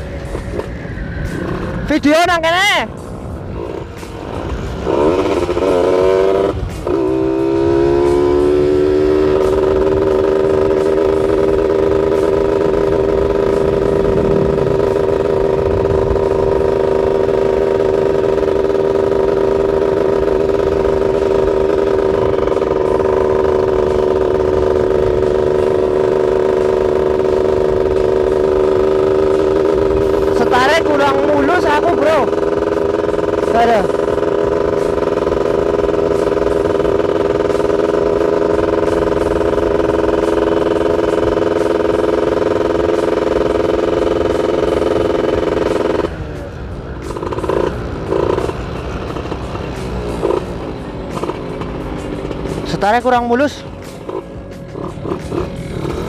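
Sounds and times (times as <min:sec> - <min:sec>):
motorcycle engine revving hard: 0:03.5 - 0:46.3, 0:47.0 - 0:56.0.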